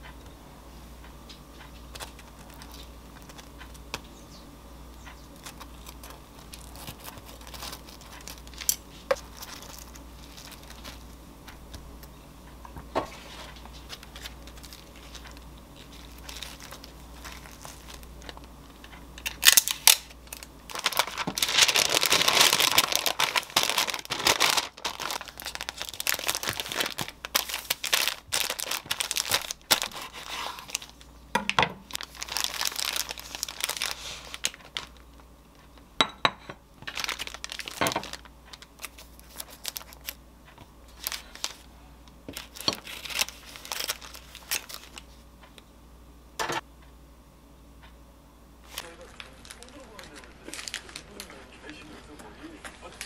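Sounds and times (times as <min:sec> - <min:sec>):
baking paper crinkling: 0:01.5 - 0:04.2, 0:04.9 - 0:12.1, 0:12.7 - 0:35.9, 0:36.8 - 0:45.3, 0:48.6 - 0:53.0.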